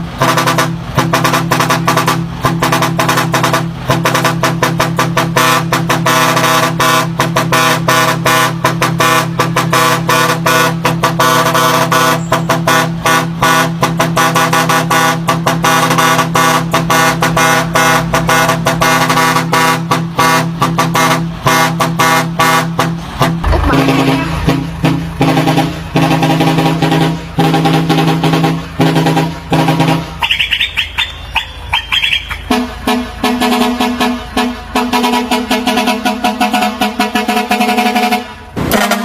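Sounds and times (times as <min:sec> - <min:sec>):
truck musical air horn: 0:00.0 - 0:39.0.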